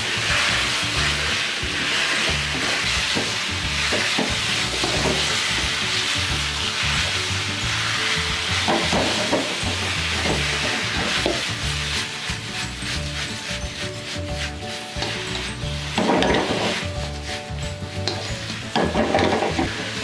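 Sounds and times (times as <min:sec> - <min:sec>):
background music: 0:00.0 - 0:20.0
chicken sizzling in oil: 0:00.0 - 0:20.0
spatula scraping pan: 0:00.0 - 0:20.0.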